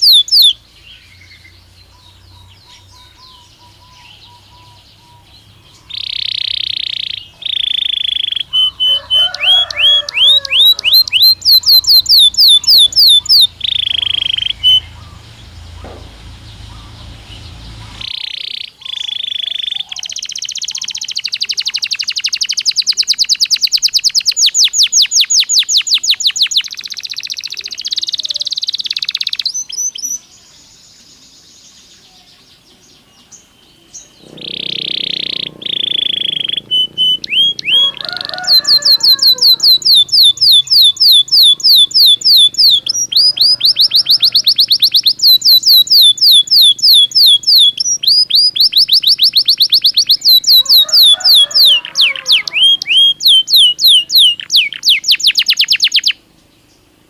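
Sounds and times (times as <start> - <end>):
canary singing in trills: 0.0 - 57.0.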